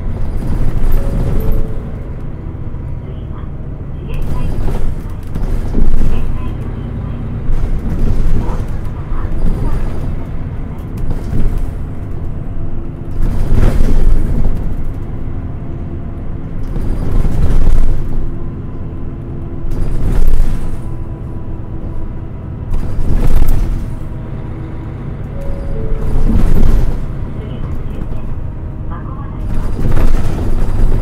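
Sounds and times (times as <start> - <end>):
diesel bus engine: 0.0 - 31.0
road rumble: 0.0 - 31.0.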